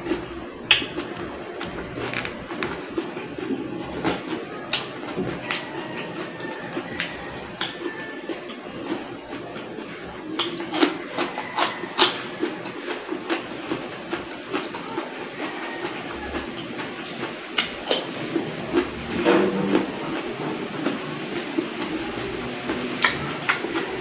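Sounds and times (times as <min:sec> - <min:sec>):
crunchy wet chewing: 0:00.0 - 0:24.0.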